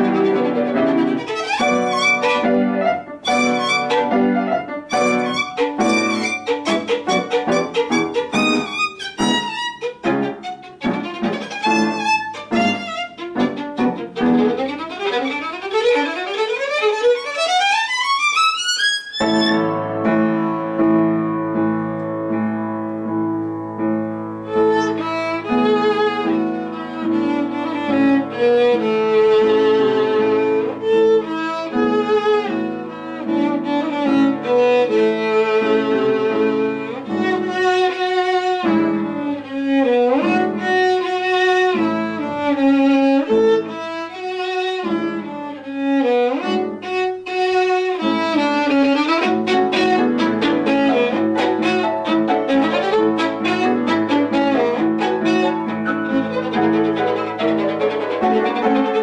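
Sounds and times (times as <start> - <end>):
solo violin: 0.0 - 21.2, 24.2 - 59.0
piano accompaniment: 0.0 - 59.0.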